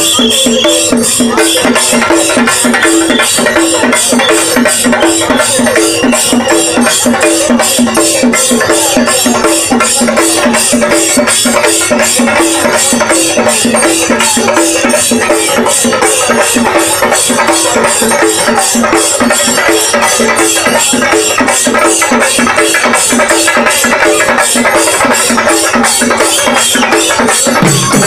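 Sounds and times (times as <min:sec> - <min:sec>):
drum ensemble playing driving rhythm: 0:00.0 - 0:28.0.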